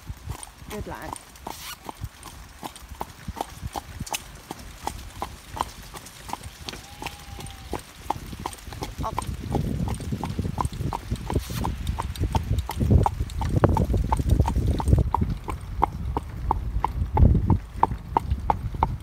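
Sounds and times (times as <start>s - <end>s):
hooves clip-clopping on tarmac: 0.0s - 19.0s.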